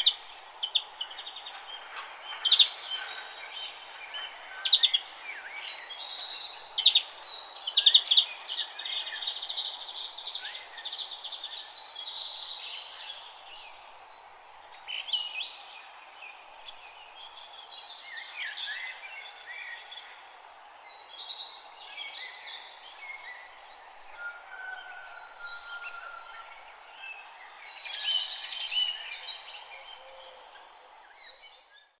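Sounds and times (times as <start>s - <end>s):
steady outdoor hiss: 0.0s - 32.0s
wild birds chirping and singing: 0.0s - 32.0s.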